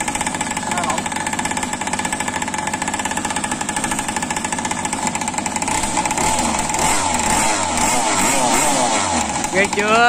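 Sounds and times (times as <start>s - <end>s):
small two-stroke engine running: 0.0s - 10.0s.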